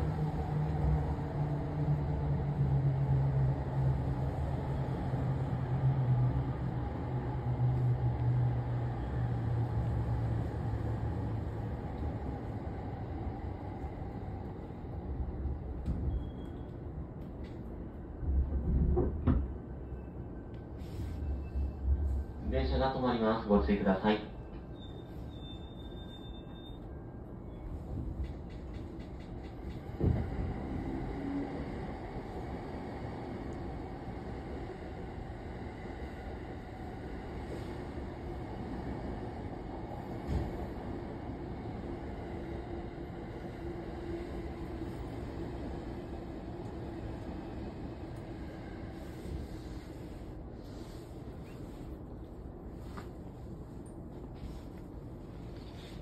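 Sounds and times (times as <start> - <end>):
train running rumble with low hum: 0.0 - 56.0.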